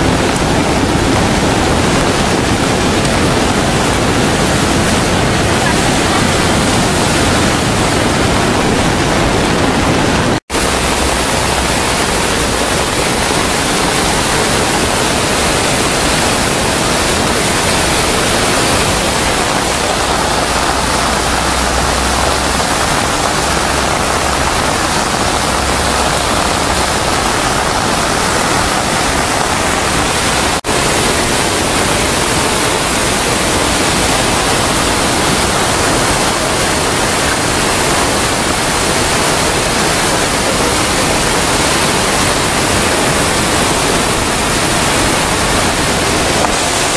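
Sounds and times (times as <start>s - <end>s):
rushing water from torrential rain: 0.0s - 46.9s.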